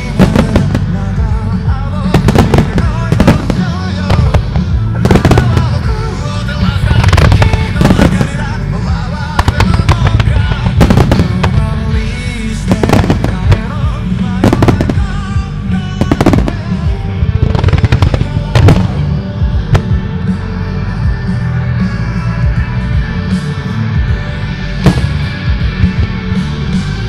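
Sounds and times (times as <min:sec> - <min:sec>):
fireworks booming and crackling: 0:00.0 - 0:20.5, 0:24.8 - 0:26.9
loud music: 0:00.0 - 0:27.0.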